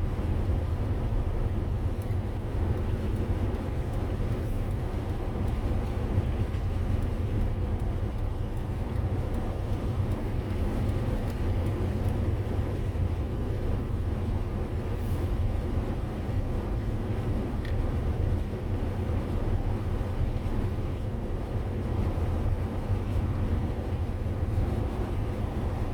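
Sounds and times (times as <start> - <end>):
motorhome driving on road: 0.0 - 25.9.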